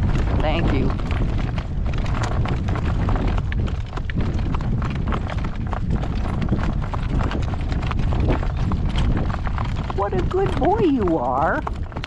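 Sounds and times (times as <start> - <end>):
horse hooves clip-clopping: 0.0 - 12.0
steady low rumble: 0.0 - 12.0.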